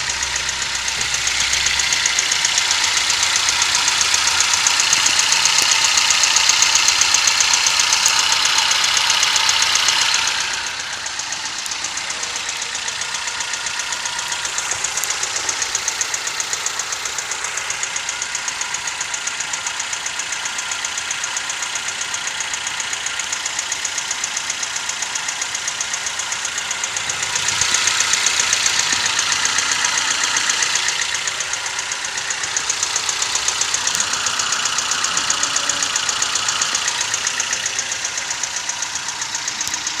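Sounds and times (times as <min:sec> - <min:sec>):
car engine knocking: 0:00.0 - 0:40.0.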